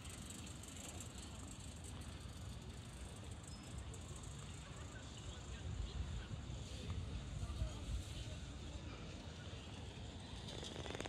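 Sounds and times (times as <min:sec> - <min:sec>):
even outdoor hiss: 0:00.0 - 0:11.0.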